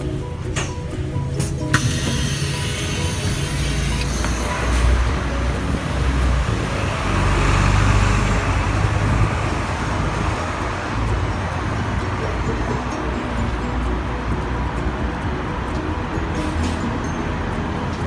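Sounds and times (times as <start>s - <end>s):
bus engine rumbling: 0.0s - 18.0s
street traffic noise: 0.0s - 18.0s.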